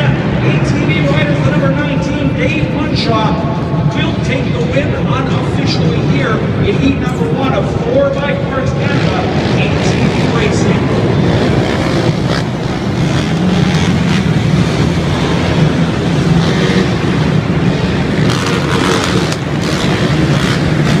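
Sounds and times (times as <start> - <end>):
quad bike engines racing: 0.0 - 21.0.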